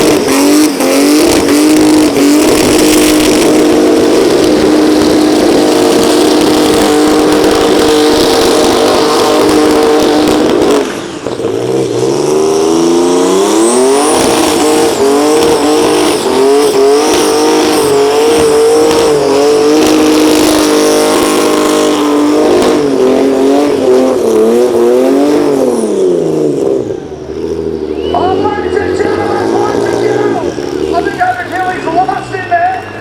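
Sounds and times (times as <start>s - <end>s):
car engine revving high: 0.0s - 33.0s.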